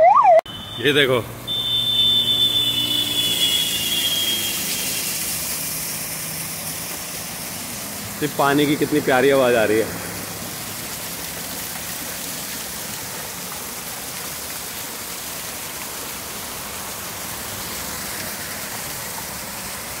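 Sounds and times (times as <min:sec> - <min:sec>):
flowing water rushing: 0:00.8 - 0:20.0.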